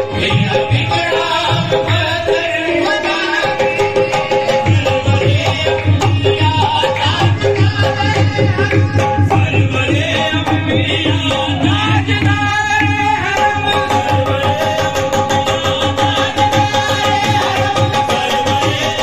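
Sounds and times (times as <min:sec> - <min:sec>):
hand drum beat: 0:03.6 - 0:19.0.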